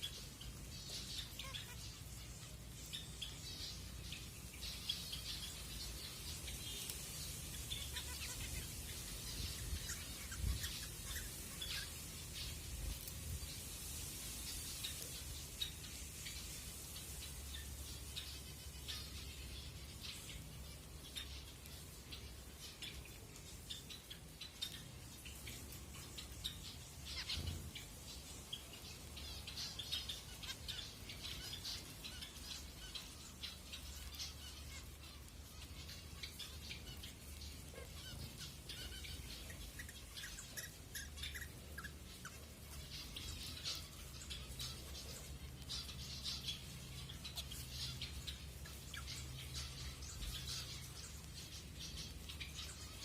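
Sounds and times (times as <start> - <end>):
finches chirping: 0.0 - 53.0.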